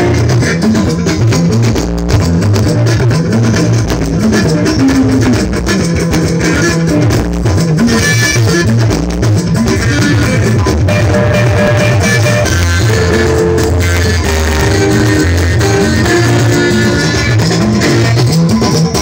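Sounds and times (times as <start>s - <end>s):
bass line: 0.0s - 19.0s
drum kit beat: 0.0s - 19.0s
electric guitar: 0.0s - 19.0s.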